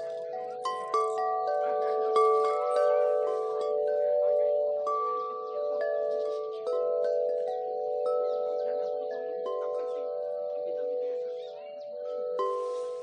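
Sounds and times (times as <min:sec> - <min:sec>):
wind chimes ringing: 0:00.0 - 0:13.0.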